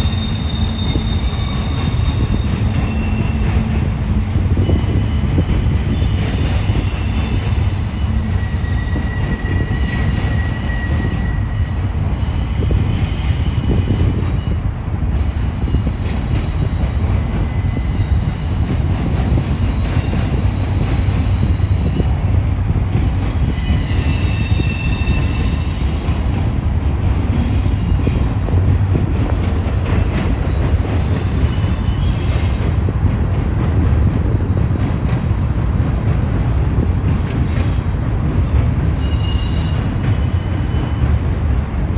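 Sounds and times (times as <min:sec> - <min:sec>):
train wheel squeal: 0:00.0 - 0:32.9, 0:37.1 - 0:41.9
train rumbling past: 0:00.0 - 0:41.9.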